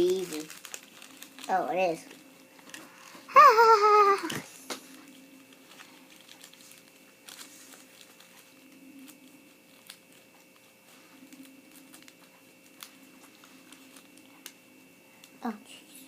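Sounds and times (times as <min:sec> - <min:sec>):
light rustling of plastic: 0:00.0 - 0:03.2, 0:04.6 - 0:14.6
steady low hum: 0:00.0 - 0:16.0.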